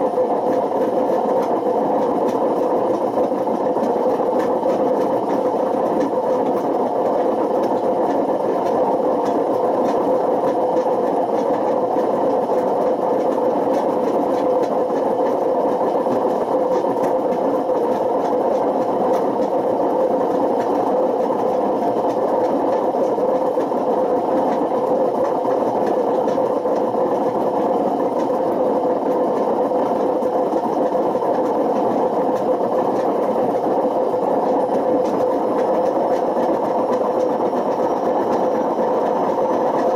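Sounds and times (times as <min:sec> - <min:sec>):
washing machine rough bearing noise: 0:00.0 - 0:39.9.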